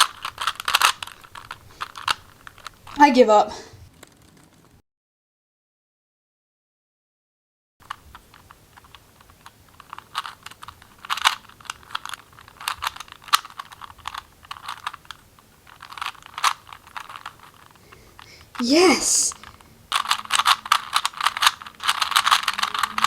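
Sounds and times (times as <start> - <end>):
puzzle cube plastic clicks: 0.0 - 3.0, 3.9 - 4.8, 7.8 - 23.0.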